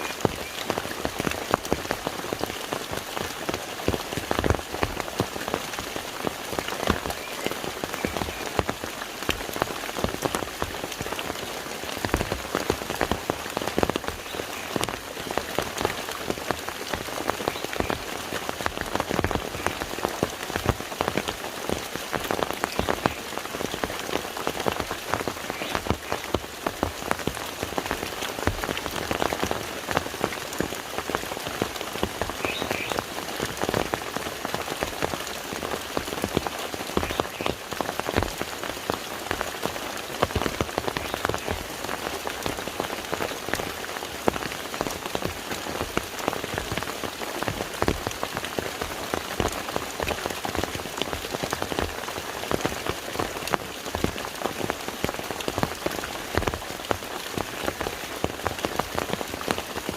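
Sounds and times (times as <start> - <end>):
rain pattering on water: 0.0 - 59.9.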